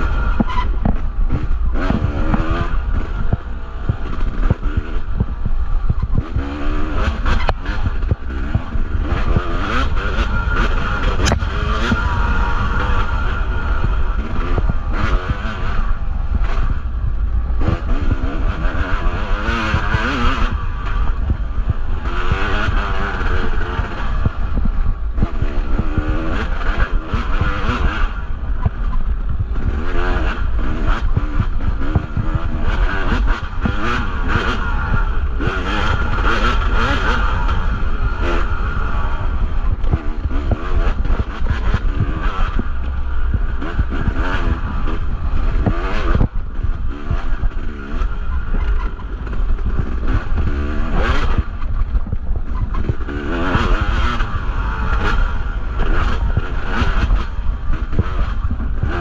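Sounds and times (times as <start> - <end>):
bike knocking and rattling: 0.0 - 59.0
two-stroke dirt bike revving: 0.0 - 59.0.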